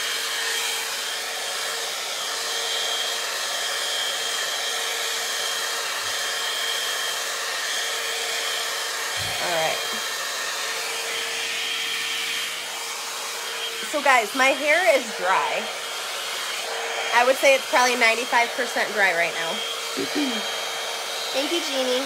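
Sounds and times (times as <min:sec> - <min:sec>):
hot-air brush blowing: 0:00.0 - 0:22.0.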